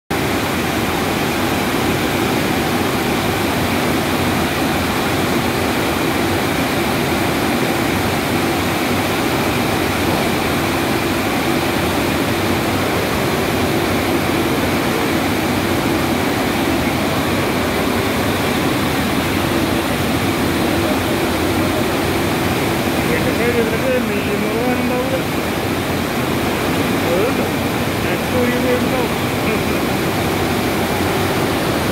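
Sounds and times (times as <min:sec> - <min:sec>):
furnace fire rushing: 0:00.2 - 0:31.9.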